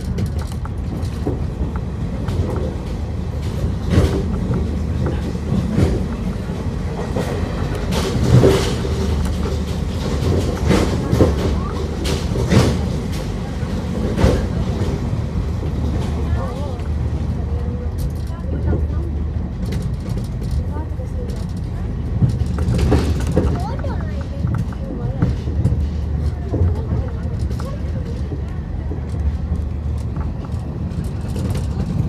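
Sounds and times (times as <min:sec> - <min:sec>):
train interior rumble: 0:00.0 - 0:32.0
wheels clacking over rail joints: 0:00.0 - 0:32.0.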